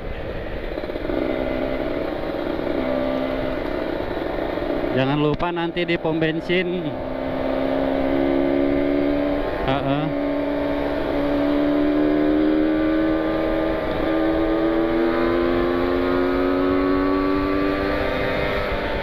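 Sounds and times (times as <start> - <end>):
motorcycle engine at high revs: 0.0 - 19.0.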